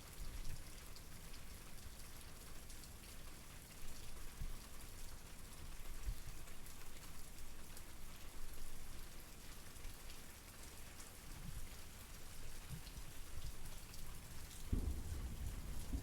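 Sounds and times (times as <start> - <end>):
raindrops ticking on a surface: 0.0 - 16.0
steady rain hiss: 0.5 - 16.0.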